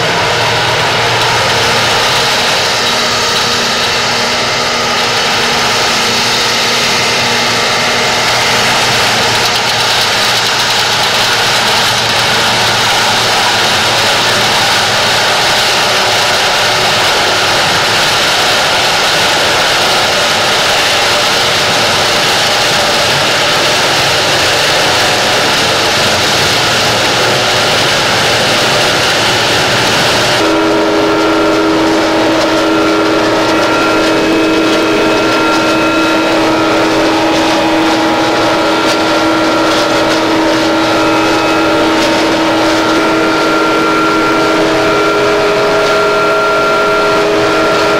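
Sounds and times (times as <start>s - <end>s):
harvester machine noise: 0.0s - 47.9s.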